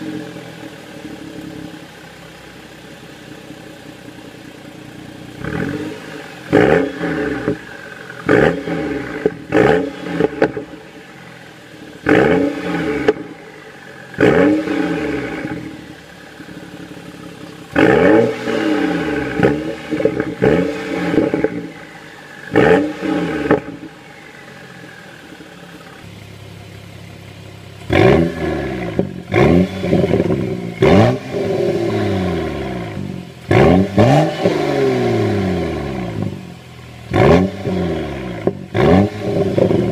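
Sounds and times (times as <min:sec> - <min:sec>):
car engine revving from idle: 0:00.0 - 0:39.9.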